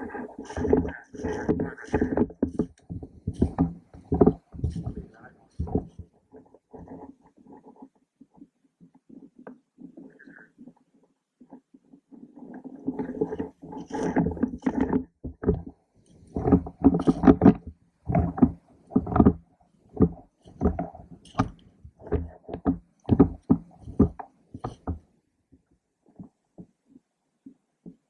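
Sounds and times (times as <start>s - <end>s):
knocks and rubbing on camera: 0.0s - 10.8s, 11.4s - 19.4s, 20.0s - 25.1s.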